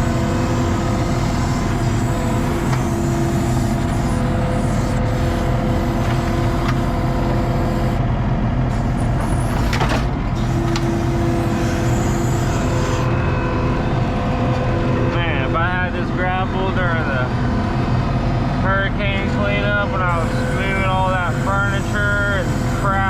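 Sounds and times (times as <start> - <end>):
track loader engine running: 0.0 - 23.0.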